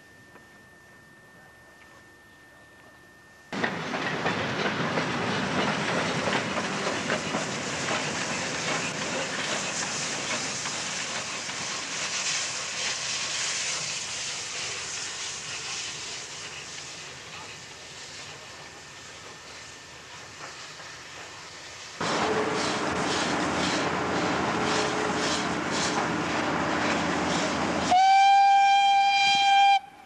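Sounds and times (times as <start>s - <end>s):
steam locomotive exhaust: 3.5s - 30.0s
rattling train wheels: 3.6s - 28.4s
steam hissing: 3.6s - 29.8s.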